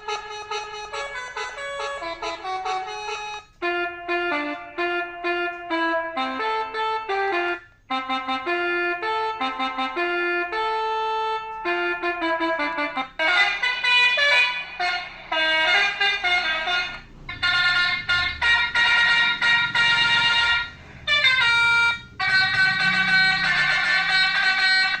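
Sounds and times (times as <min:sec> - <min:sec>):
melodic bus horn: 0:00.0 - 0:25.0.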